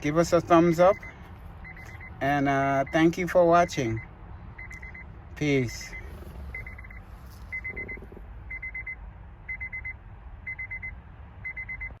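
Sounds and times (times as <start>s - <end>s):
dashboard warning chime beeping: 0.0s - 12.0s.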